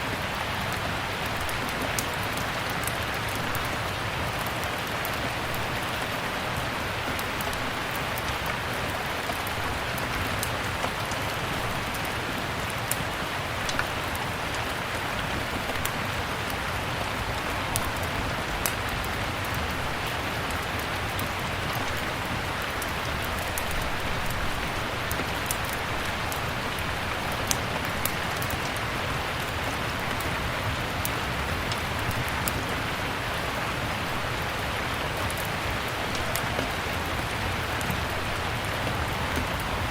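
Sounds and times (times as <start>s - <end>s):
steady rain hiss: 0.0s - 39.9s
wood fire crackling: 0.1s - 39.9s.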